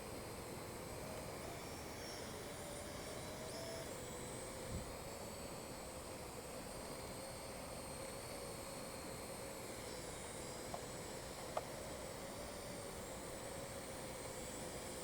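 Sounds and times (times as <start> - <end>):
quadcopter rotors humming: 0.0 - 15.0.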